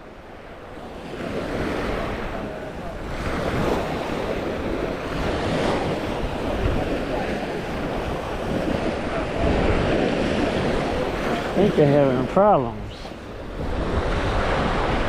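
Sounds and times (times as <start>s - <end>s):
wind buffeting microphone: 0.0s - 15.0s
surf washing onto beach: 0.2s - 15.0s.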